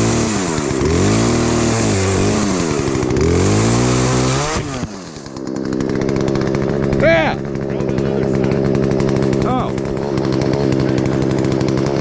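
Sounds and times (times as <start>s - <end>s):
chainsaw cutting into log: 0.0s - 12.0s.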